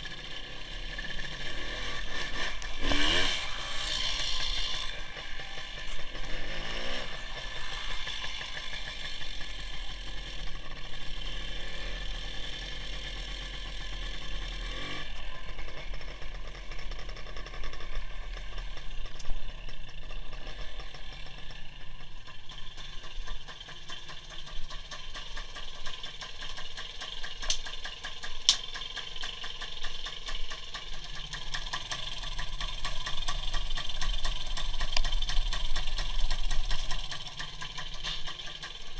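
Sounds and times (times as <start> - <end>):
two-stroke motorcycle engine running: 0.0 - 38.9.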